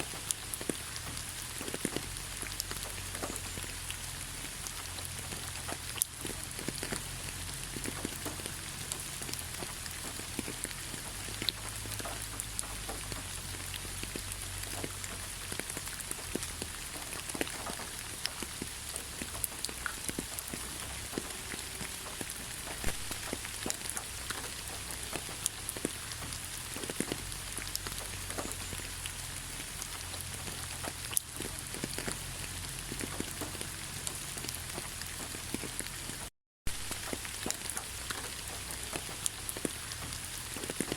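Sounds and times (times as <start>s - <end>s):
raindrops landing close by: 0.0s - 40.9s
steady rain hissing: 0.0s - 40.9s.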